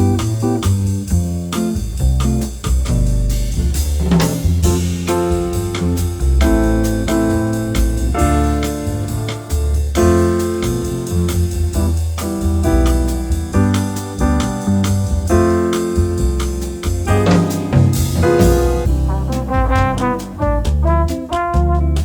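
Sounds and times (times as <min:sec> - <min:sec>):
keyboard melody with bass and drums: 0:00.0 - 0:22.0.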